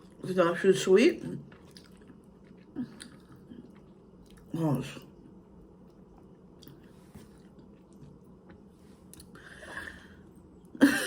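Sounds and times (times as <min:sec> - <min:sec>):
soft chewing: 0:01.2 - 0:10.8.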